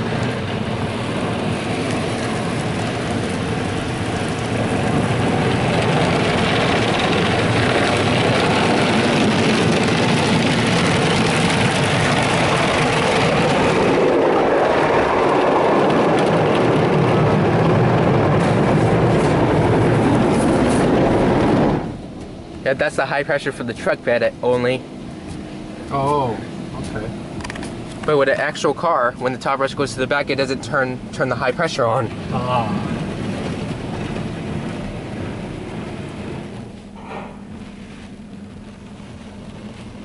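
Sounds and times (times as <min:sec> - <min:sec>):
water jets spraying on truck: 0:00.0 - 0:36.9.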